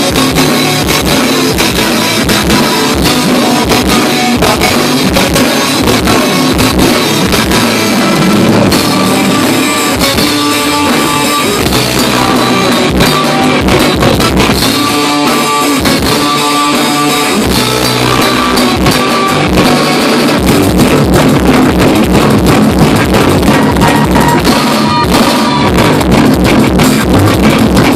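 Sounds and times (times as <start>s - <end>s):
distorted electric guitars: 0.0s - 27.9s
drum kit: 0.0s - 27.9s.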